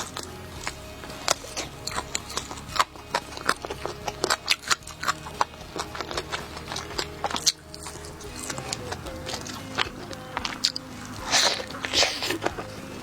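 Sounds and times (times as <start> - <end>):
chewing a burger: 0.0 - 13.0.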